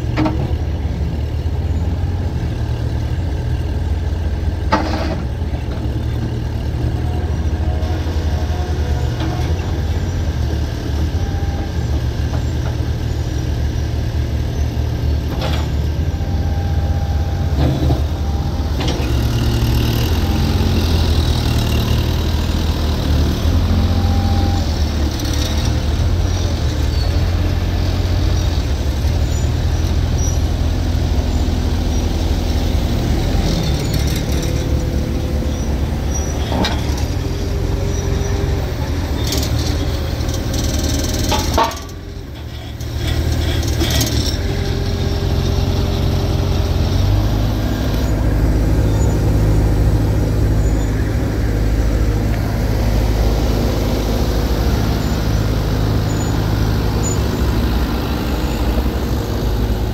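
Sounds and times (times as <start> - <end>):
excavator diesel engine rumbling: 0.0 - 59.9.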